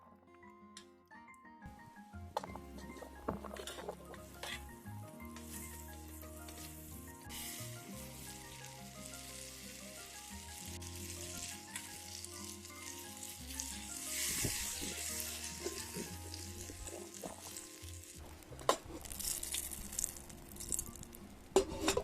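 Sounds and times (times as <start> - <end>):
soft background music: 0.0 - 22.0
food sizzling in a frying pan: 3.6 - 22.0.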